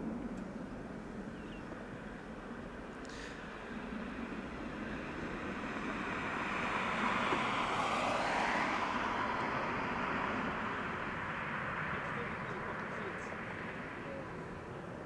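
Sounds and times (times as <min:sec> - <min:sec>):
jet engines rushing hiss: 0:00.0 - 0:15.0.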